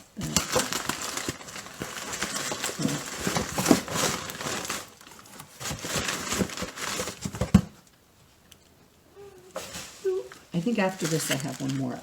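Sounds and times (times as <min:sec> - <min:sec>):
packing material crinkling: 0:00.2 - 0:07.6, 0:09.5 - 0:12.0.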